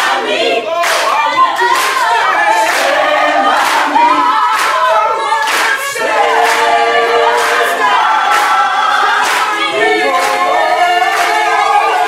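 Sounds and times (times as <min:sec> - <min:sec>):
group singing in harmony: 0:00.0 - 0:12.0.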